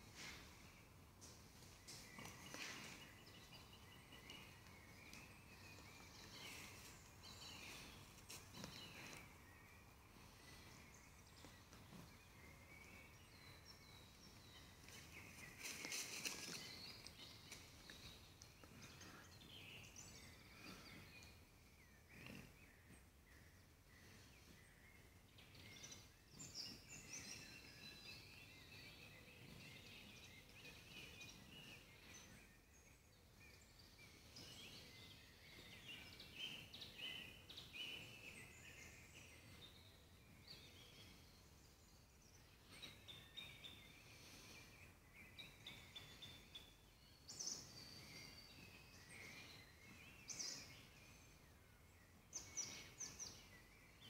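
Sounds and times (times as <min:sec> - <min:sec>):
birds whistling and trilling: 0:00.0 - 0:54.0
forest background noise: 0:00.0 - 0:54.0.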